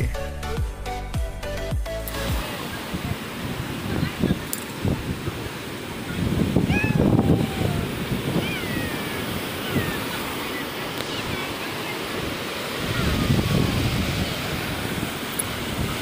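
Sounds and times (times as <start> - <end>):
surf breaking on seawall: 2.1 - 16.0
wind buffeting microphone: 2.2 - 16.0.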